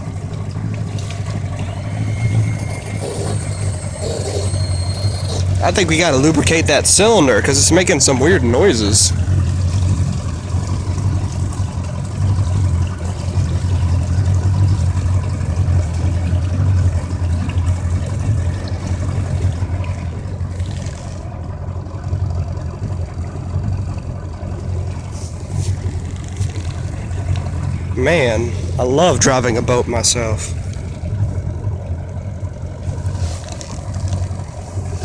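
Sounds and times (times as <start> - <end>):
outboard motor droning: 0.0 - 35.0.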